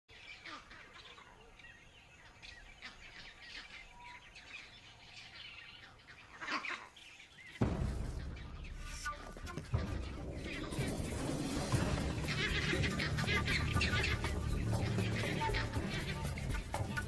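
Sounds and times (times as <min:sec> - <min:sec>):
birds chirping and calling: 0:00.1 - 0:17.0.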